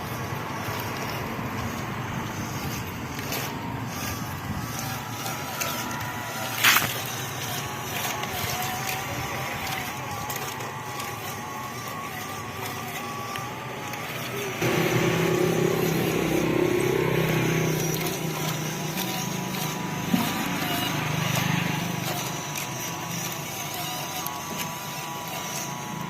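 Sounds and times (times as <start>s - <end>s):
toy truck electric motor whining: 0.0s - 26.0s.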